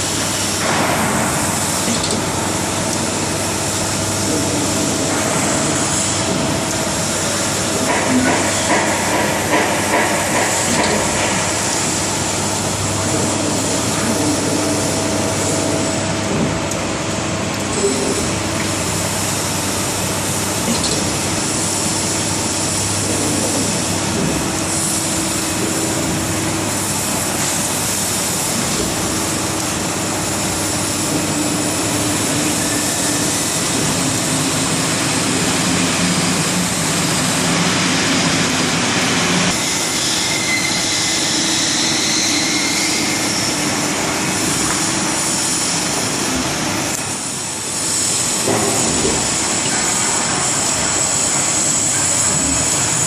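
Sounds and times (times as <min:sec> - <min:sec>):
industrial machinery hum and hiss: 0:00.0 - 0:53.0.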